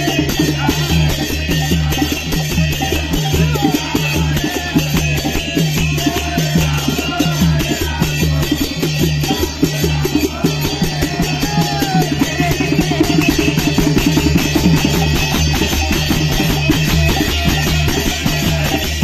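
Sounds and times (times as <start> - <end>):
crowd chanting: 0.0 - 19.0
djembe drumming: 0.0 - 19.0
hand cymbals: 0.0 - 19.0.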